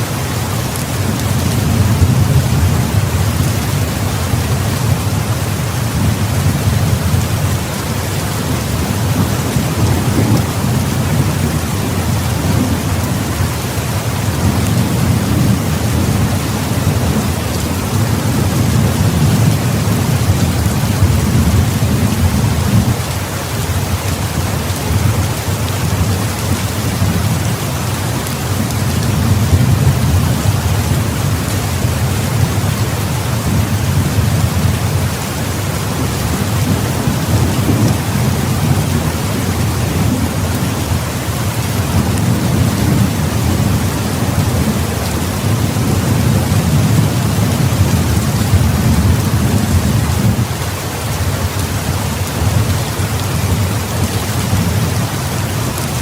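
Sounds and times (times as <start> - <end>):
heavy rain pouring: 0.0 - 56.0
low rolling thunder: 1.0 - 23.1, 23.8 - 50.6.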